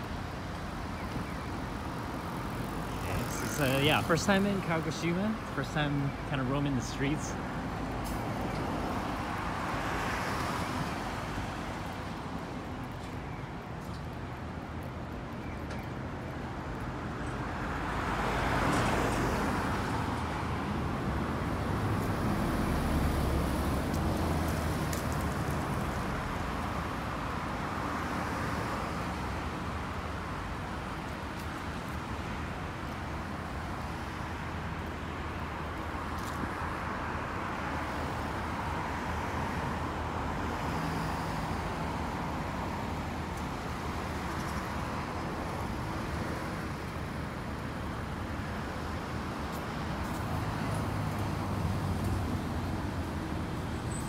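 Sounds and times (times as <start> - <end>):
cars passing: 0.0 - 15.4, 16.0 - 54.0
steady road hum: 0.0 - 54.0.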